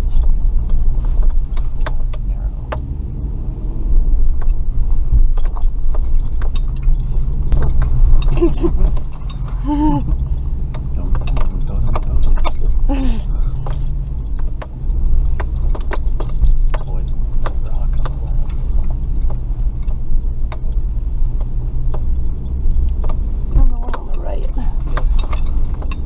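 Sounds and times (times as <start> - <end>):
vehicle engine hum: 0.0 - 26.0
vehicle body knocks and rattles: 4.0 - 26.0.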